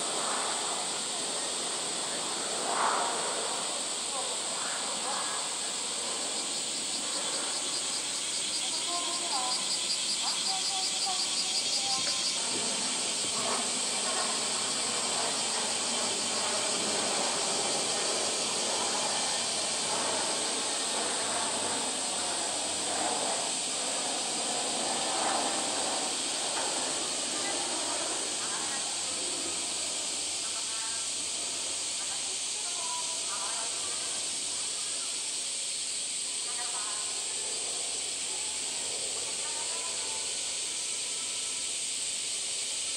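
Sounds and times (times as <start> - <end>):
cicada chorus hissing: 0.0 - 42.9
rapid pulsing insect call: 0.0 - 42.9.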